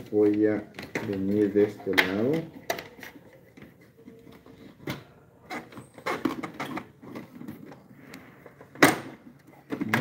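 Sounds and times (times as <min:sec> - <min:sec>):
plastic parts clicking and rattling: 0:00.0 - 0:10.0.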